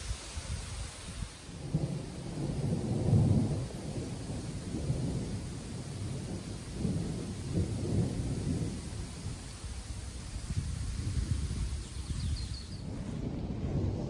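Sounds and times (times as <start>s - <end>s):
rumbling thunder: 0.6s - 14.0s.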